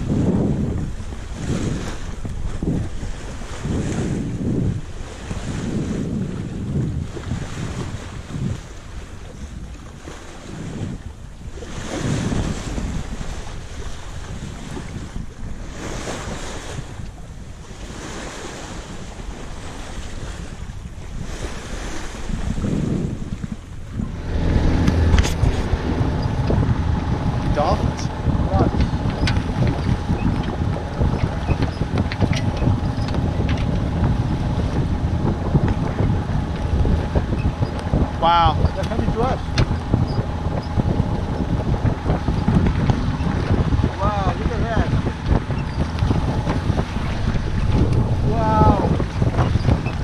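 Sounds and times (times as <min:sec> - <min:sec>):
water rushing along hull: 0:00.0 - 0:50.0
wind buffeting microphone: 0:00.0 - 0:50.0.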